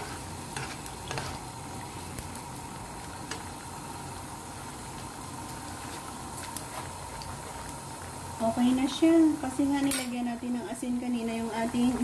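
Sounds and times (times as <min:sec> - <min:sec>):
soup bubbling in a pan: 0:00.0 - 0:09.8.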